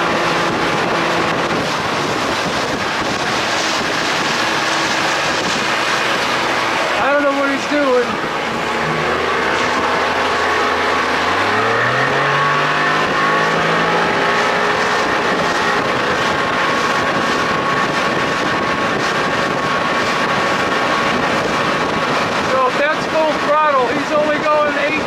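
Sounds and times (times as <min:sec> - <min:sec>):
two-stroke outboard motor running: 0:00.0 - 0:25.0.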